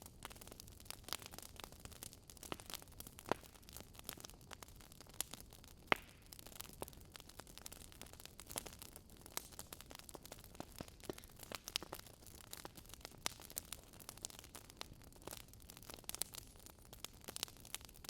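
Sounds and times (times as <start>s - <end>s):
burning logs crackling: 0.0s - 18.0s
fire pops and snaps: 0.0s - 18.0s.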